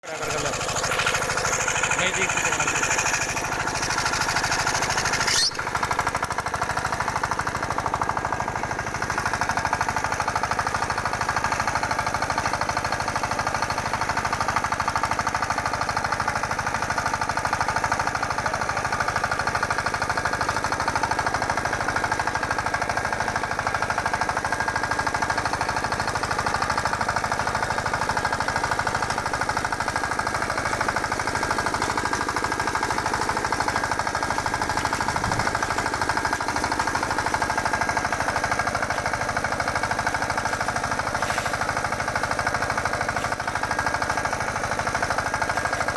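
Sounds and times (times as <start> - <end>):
cultivator engine knocking: 0.0 - 45.9.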